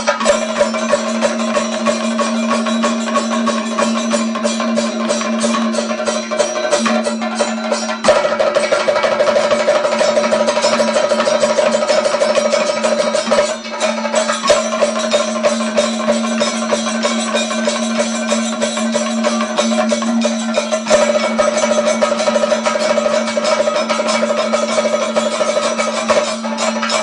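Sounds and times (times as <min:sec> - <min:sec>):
drums beaten in fast rhythm: 0:00.0 - 0:27.0.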